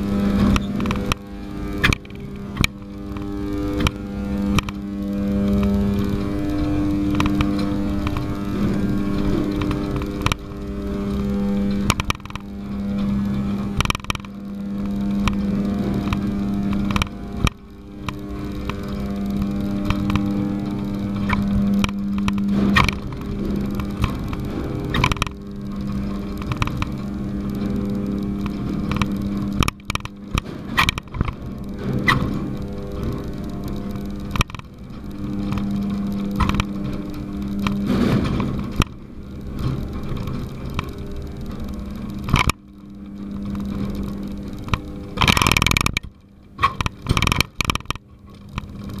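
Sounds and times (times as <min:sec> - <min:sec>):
clicks and knocks: 0:00.0 - 0:49.0
conveyor machinery hum: 0:00.0 - 0:49.0
rattling and scraping: 0:00.0 - 0:49.0.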